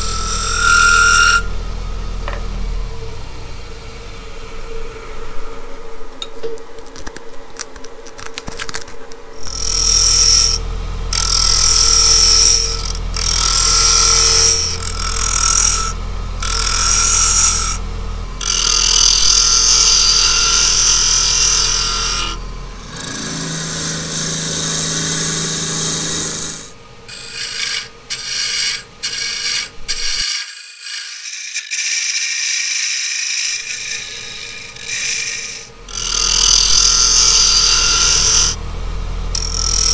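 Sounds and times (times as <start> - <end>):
lathe motor hum: 0.0 - 6.7, 9.2 - 31.7, 33.3 - 39.9
turning tool cutting wood: 0.0 - 39.9.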